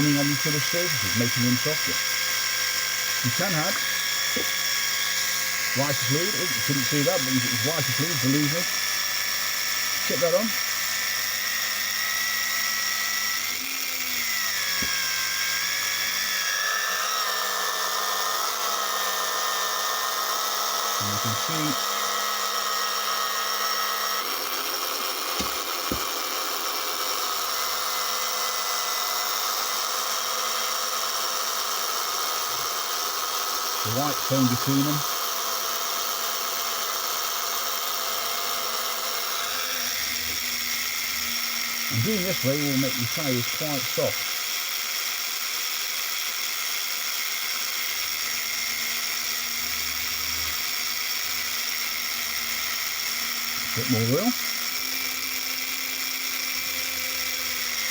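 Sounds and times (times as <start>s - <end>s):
small electric motor whining: 0.0s - 57.9s.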